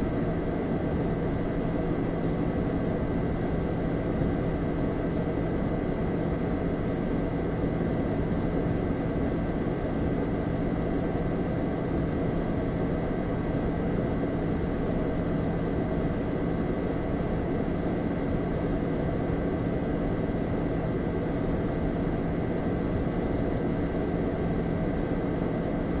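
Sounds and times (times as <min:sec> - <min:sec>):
computer fan humming: 0:00.0 - 0:26.0.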